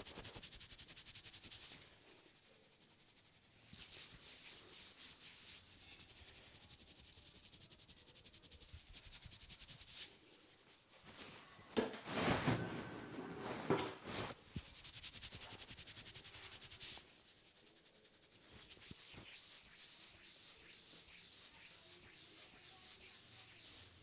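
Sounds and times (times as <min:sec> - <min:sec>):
rhythmic rubbing on hair: 0:00.0 - 0:11.3, 0:14.3 - 0:24.0.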